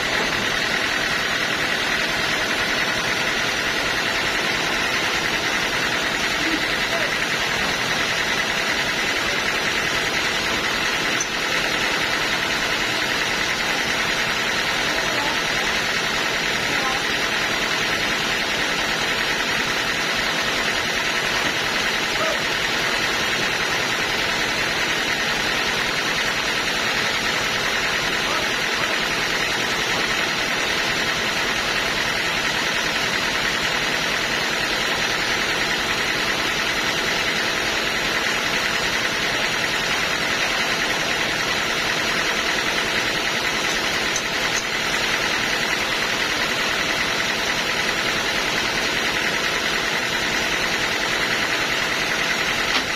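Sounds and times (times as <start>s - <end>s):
sawmill machine noise: 0.0s - 52.9s.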